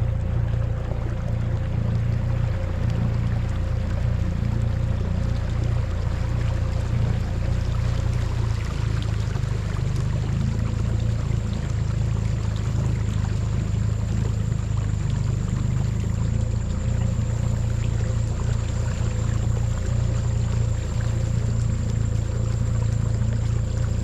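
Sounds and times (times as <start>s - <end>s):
outboard motor running: 0.0s - 24.0s
water rushing along hull: 0.0s - 24.0s.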